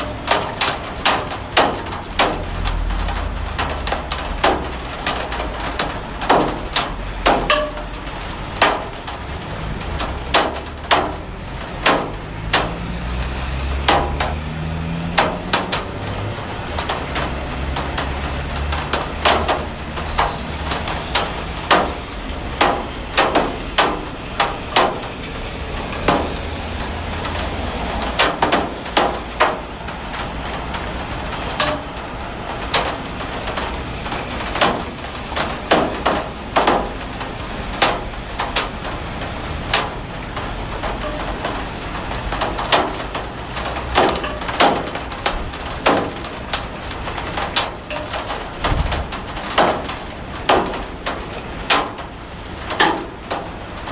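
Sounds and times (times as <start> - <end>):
low rain rumble: 0.0 - 53.9
raindrops knocking on hard surface: 0.0 - 53.9.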